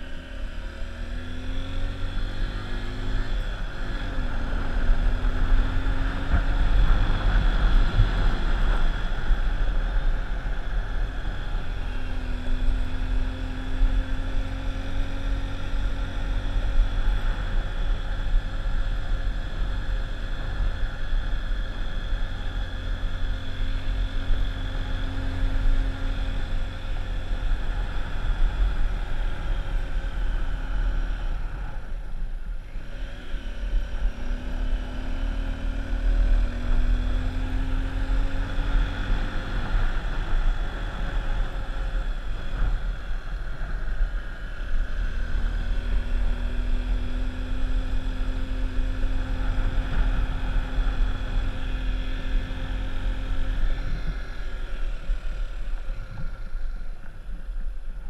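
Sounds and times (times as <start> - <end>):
vehicle engine running: 0.0 - 58.0
wind rumble on microphone: 0.0 - 58.0.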